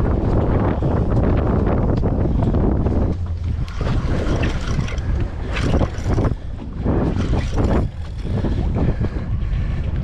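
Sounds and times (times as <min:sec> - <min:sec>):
water rushing along hull: 0:00.0 - 0:10.0
wind buffeting microphone: 0:00.0 - 0:10.0.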